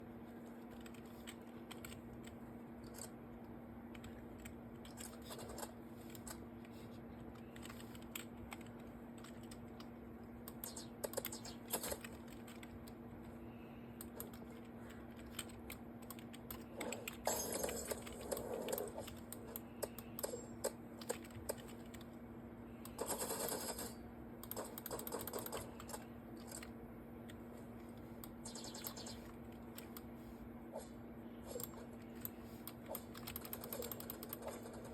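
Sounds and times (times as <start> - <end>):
low hum: 0.0 - 34.9.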